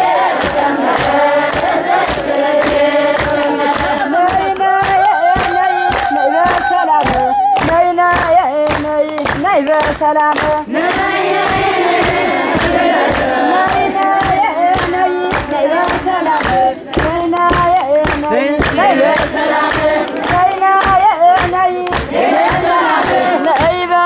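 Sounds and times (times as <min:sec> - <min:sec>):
crowd singing a religious chant: 0:00.0 - 0:07.3, 0:10.5 - 0:24.0
rhythmic hand clapping: 0:00.0 - 0:24.0.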